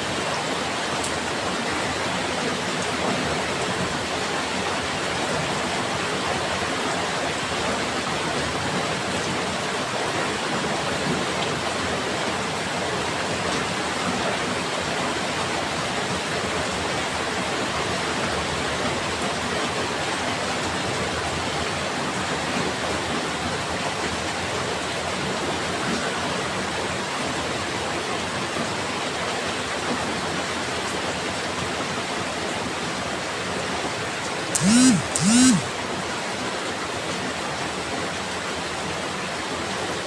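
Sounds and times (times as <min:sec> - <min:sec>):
heavy rain falling: 0:00.0 - 0:34.3.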